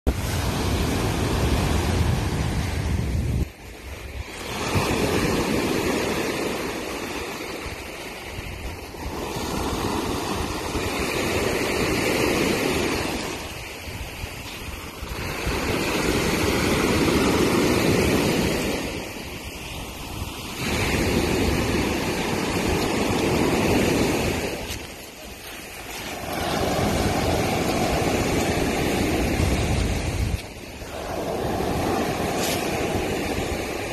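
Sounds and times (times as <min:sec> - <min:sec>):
surf breaking on a beach: 0:00.1 - 0:33.9.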